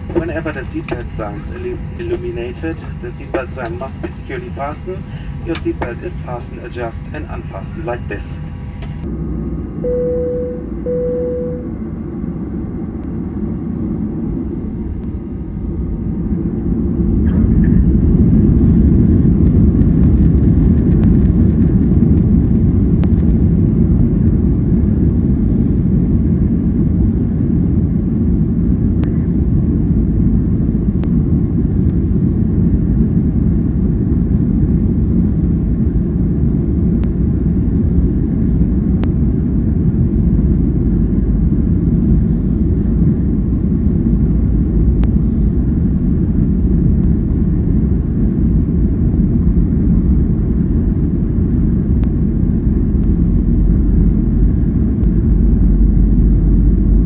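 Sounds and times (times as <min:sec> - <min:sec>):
low jet engine rumble: 0:00.0 - 0:57.0.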